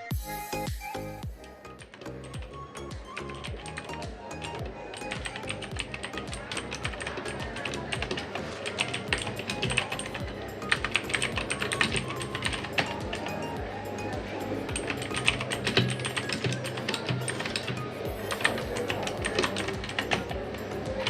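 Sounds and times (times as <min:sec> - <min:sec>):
background music: 0:00.0 - 0:21.0
mechanical keyboard typing: 0:01.5 - 0:21.0.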